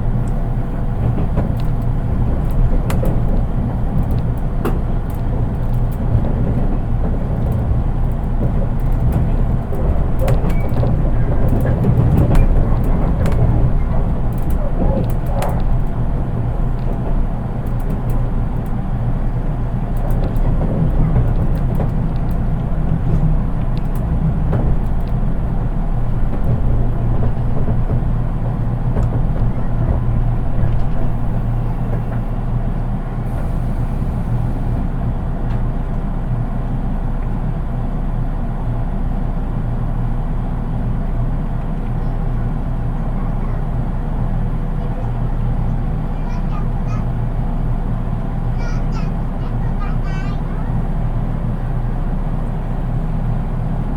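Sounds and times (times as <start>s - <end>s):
train interior rumble: 0.0s - 53.9s.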